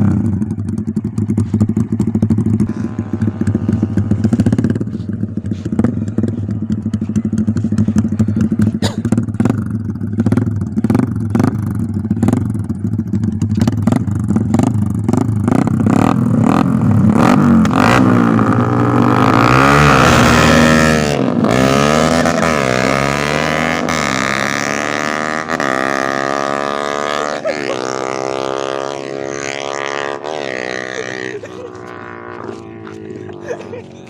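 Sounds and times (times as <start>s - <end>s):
motorcycle engines at full throttle: 0.0s - 34.0s.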